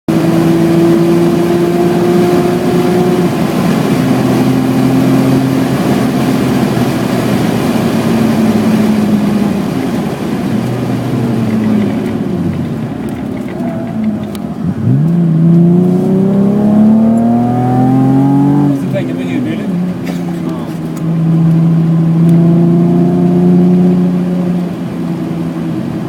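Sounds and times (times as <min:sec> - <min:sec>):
car engine pulling under load: 0:00.3 - 0:26.0.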